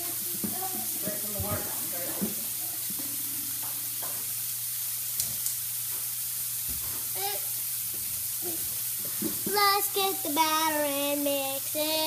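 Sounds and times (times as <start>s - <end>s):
batter sizzling in a pan: 0.0s - 12.0s.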